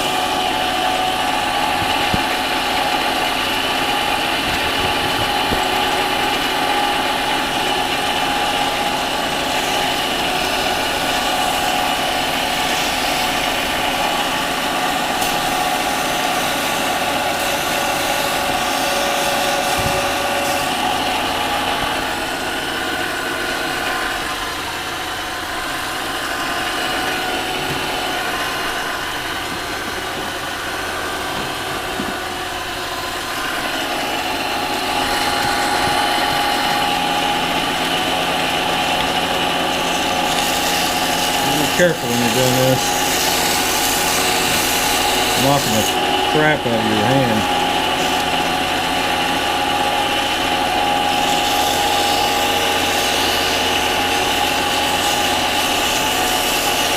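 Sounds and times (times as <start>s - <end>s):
lathe motor whine: 0.0s - 56.9s.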